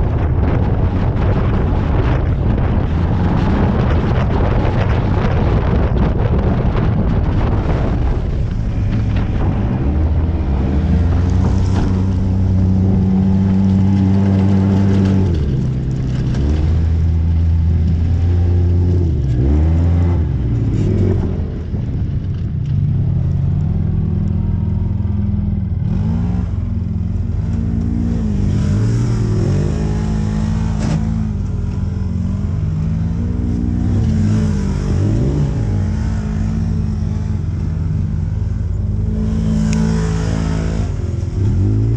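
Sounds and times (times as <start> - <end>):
engine revving: 0.0 - 41.9.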